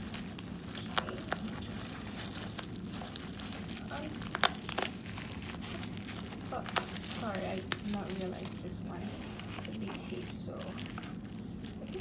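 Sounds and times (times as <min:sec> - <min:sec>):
low steady hum: 0:00.0 - 0:12.0
wrapping crinkling and rustling: 0:00.0 - 0:12.0.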